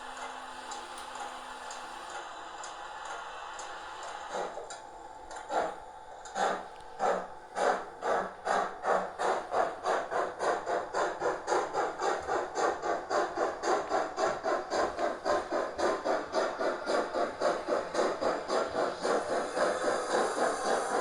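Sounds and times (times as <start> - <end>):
model locomotive steam chuffs: 0.0 - 21.0.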